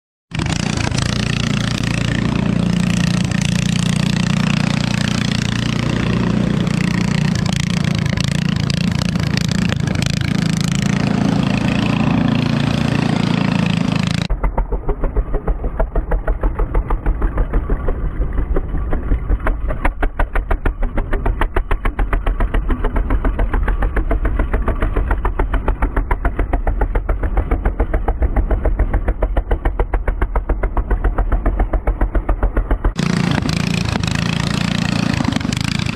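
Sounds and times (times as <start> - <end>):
snowmobile engine running hard: 0.3 - 35.9.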